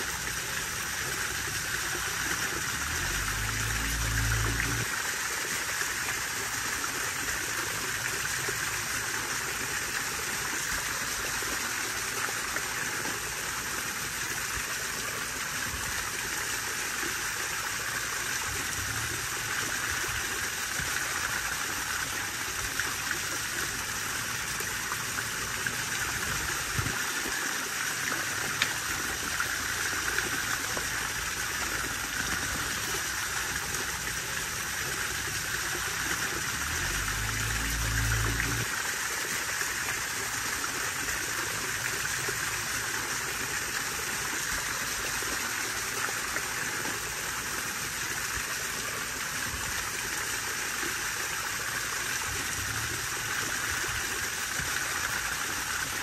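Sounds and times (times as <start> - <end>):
waterfall splashing into pond: 0.0 - 56.0.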